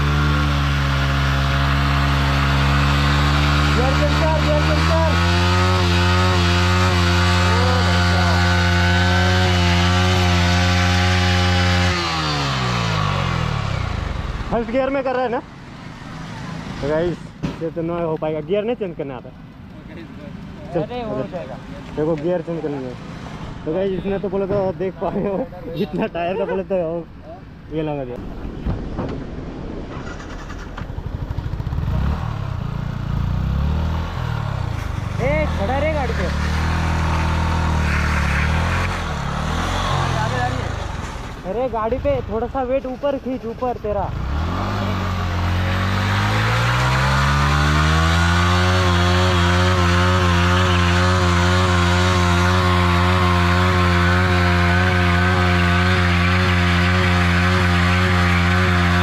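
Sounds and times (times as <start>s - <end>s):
motorcycle engine revving: 0.0s - 26.5s, 29.8s - 59.0s.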